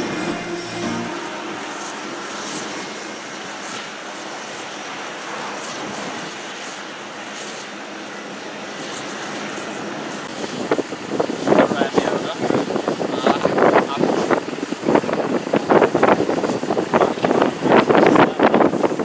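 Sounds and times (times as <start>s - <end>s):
distant jet engines: 0.0s - 19.0s.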